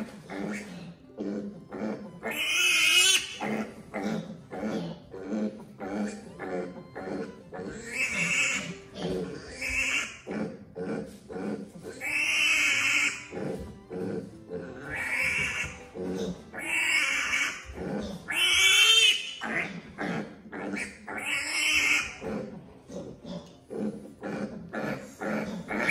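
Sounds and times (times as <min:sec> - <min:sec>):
piglet squealing: 0:00.0 - 0:25.9.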